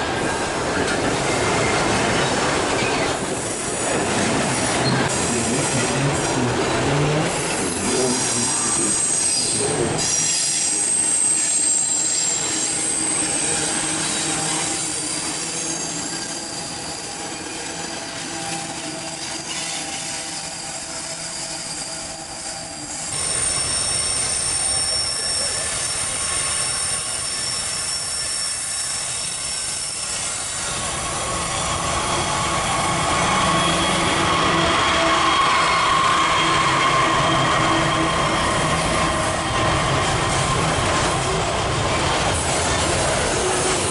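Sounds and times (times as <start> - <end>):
steel wheels squealing on rails: 0.0 - 43.9.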